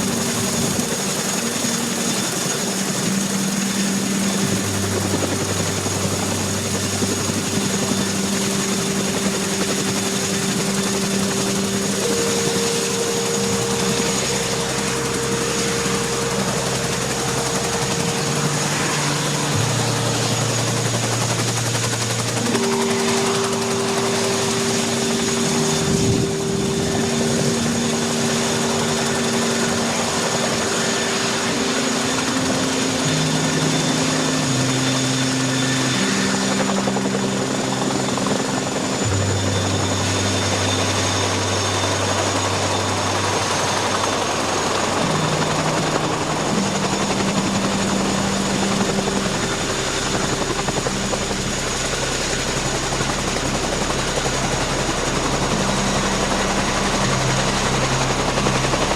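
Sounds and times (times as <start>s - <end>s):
helicopter rotor and engine noise: 0.0s - 58.9s
high turbine whine: 0.0s - 58.9s
low held notes: 0.0s - 58.9s.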